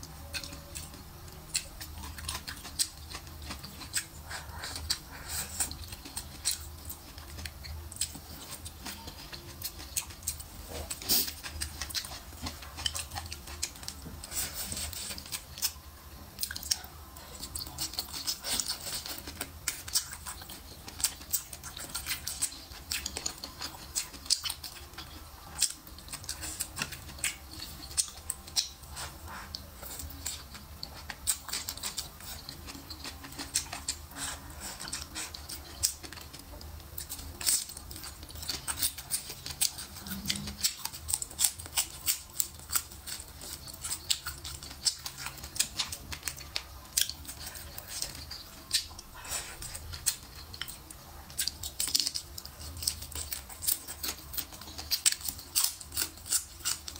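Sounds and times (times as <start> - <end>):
chewing and crunching: 0.0 - 56.9.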